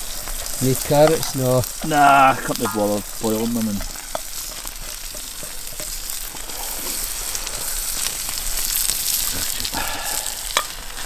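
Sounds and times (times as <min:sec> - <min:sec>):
food sizzling in a pan: 0:00.0 - 0:11.0
small crackles: 0:00.0 - 0:11.0.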